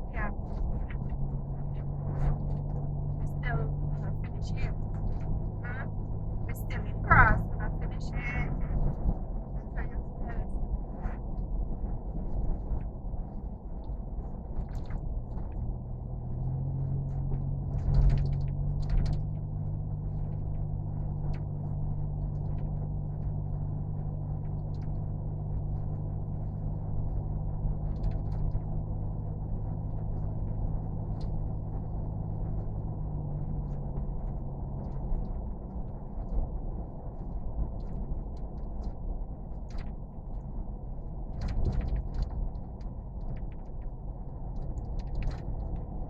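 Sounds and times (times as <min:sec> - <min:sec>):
engine rumbling: 0:00.0 - 0:46.0
low hum: 0:00.0 - 0:46.0.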